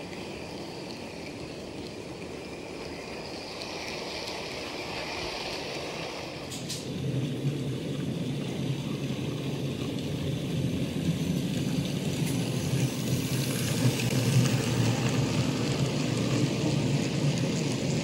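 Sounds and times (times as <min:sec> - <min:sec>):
model train rumbling on rails: 0:00.0 - 0:18.0.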